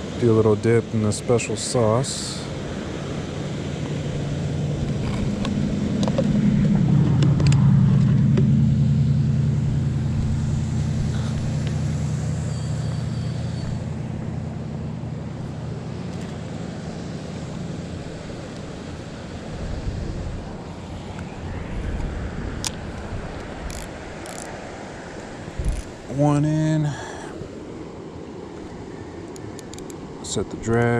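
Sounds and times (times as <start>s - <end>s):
vehicle passing by: 2.1s - 26.9s.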